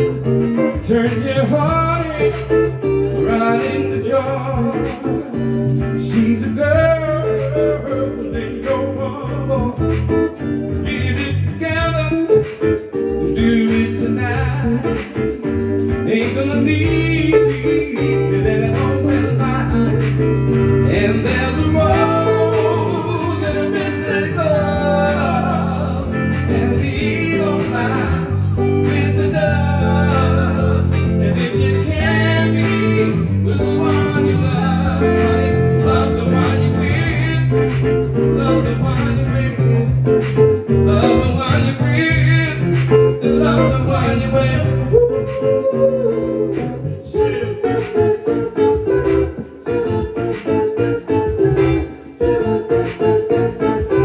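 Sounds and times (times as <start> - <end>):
bass line: 0.0 - 54.0
electric guitar: 0.0 - 54.0
keyboard chords: 0.0 - 54.0
man singing: 0.0 - 54.0.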